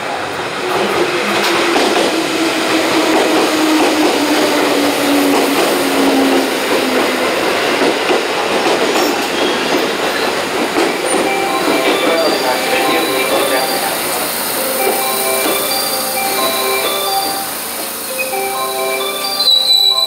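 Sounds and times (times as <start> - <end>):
electric train rumbling on rails: 0.0 - 20.0
train humming tone: 0.0 - 20.0.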